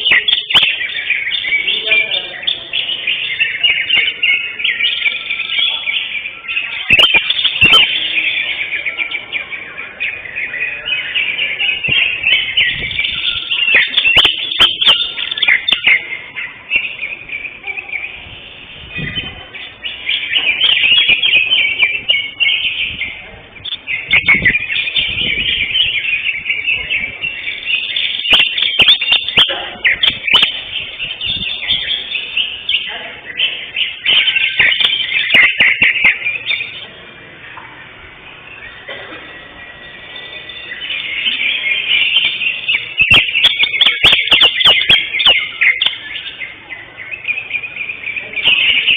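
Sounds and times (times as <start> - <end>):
bird singing rapid song: 0.0 - 48.9.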